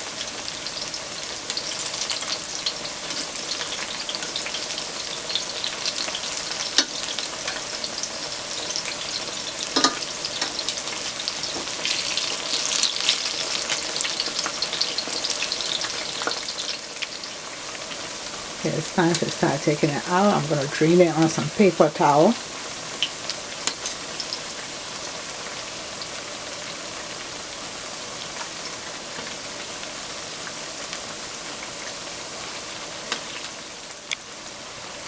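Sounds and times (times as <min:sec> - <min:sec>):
plantain frying in hot oil: 0:00.0 - 0:35.0.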